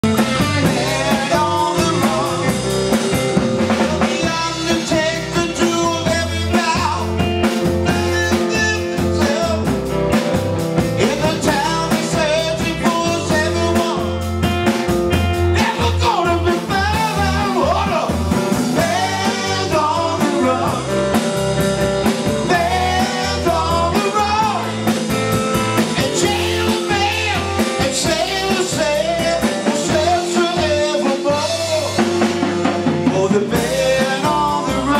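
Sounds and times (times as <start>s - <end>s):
man singing: 0.0s - 14.4s, 15.4s - 21.4s, 22.0s - 25.1s, 25.8s - 34.9s
drum kit: 0.0s - 34.9s
electric bass: 0.0s - 34.9s
electric guitar: 0.0s - 34.9s.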